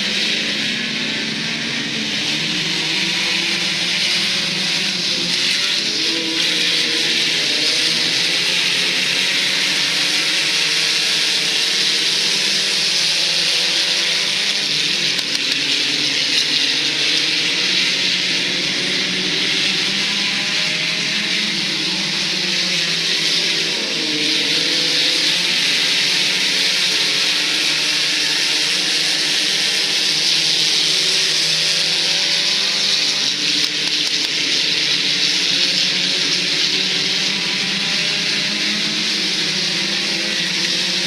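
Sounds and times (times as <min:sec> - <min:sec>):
race car engines passing: 0:00.0 - 0:41.0.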